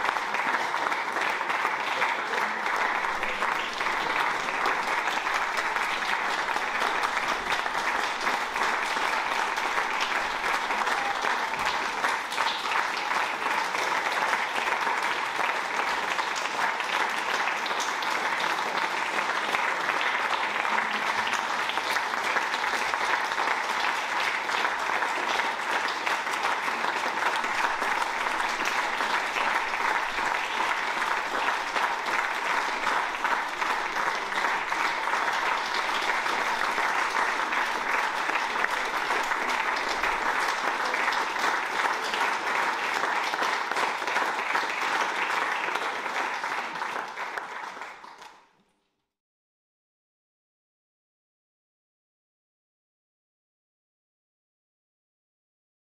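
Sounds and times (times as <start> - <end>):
audience applauding: 0.0 - 48.6.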